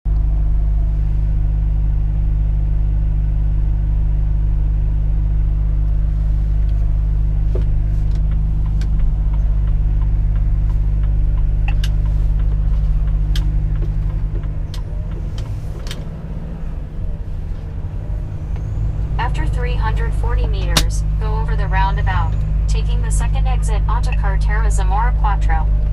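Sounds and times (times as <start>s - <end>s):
truck diesel engine drone: 0.0s - 25.9s.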